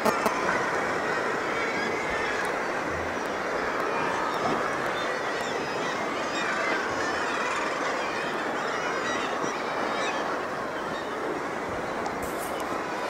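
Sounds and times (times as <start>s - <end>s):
sea noise: 0.0s - 13.0s.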